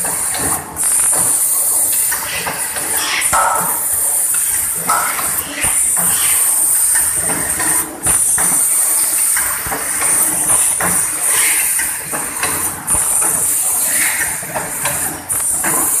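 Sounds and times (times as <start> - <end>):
packing machine hissing: 0.0 - 16.0
mechanical clunks and clacks: 2.1 - 16.0.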